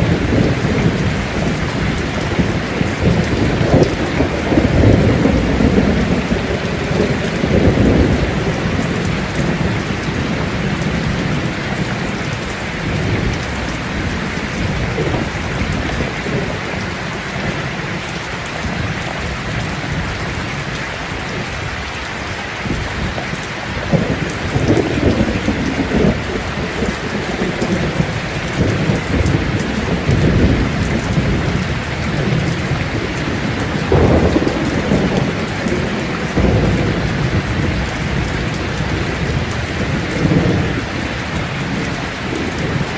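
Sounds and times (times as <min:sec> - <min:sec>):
rolling thunder rumbling: 0:00.0 - 0:42.9
steady rain falling: 0:00.0 - 0:42.9.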